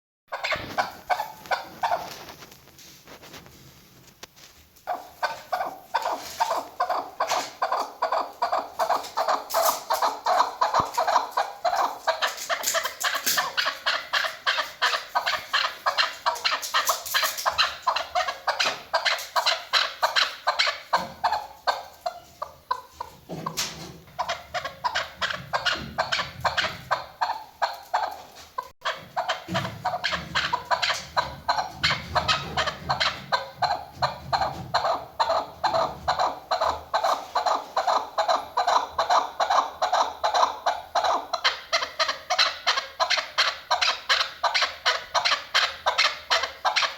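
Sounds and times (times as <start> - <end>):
partridge clucking call: 0.3 - 2.2, 4.9 - 46.9.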